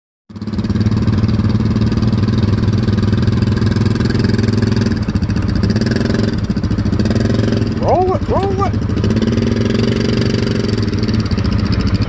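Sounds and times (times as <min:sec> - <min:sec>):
utility vehicle engine under load: 0:00.3 - 0:12.0.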